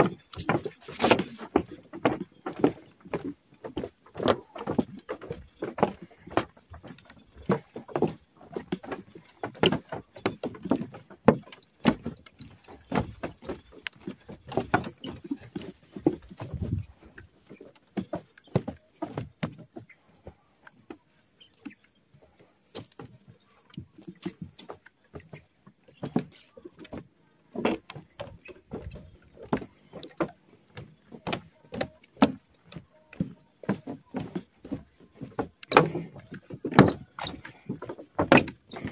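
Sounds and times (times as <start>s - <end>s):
footsteps on wooden boardwalk: 0.0s - 38.9s.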